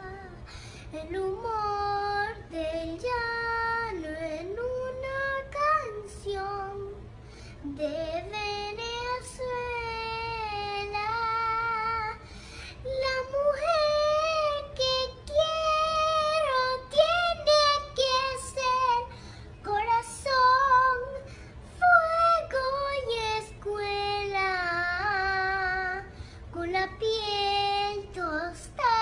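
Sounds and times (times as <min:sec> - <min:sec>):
girl singing unaccompanied: 0:00.0 - 0:29.0.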